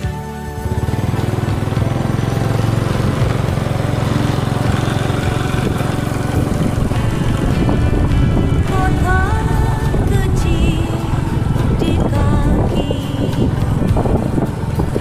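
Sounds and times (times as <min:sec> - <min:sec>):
music: 0:00.0 - 0:15.0
road noise: 0:00.0 - 0:15.0
vehicle engine running: 0:00.0 - 0:15.0.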